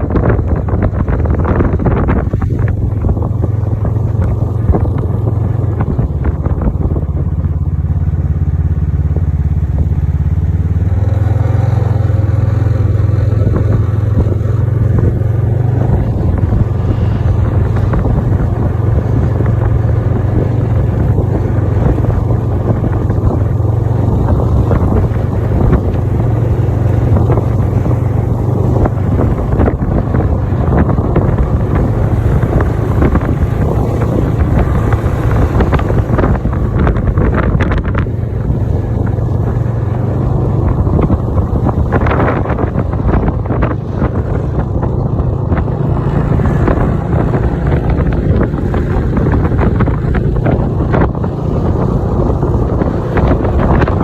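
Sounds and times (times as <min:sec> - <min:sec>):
snowmobile engine running: 0:00.0 - 0:54.0
wind buffeting microphone: 0:00.0 - 0:54.0.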